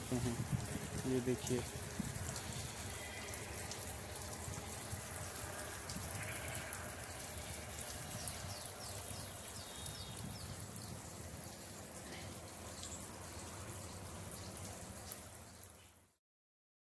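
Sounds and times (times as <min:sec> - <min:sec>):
water running in channel: 0:00.0 - 0:16.2.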